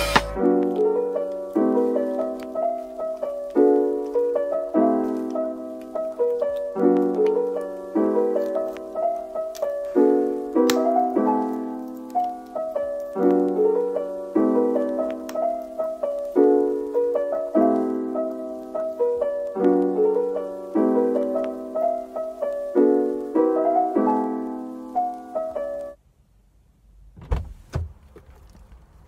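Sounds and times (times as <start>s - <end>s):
gentle piano piece: 0.0s - 26.0s.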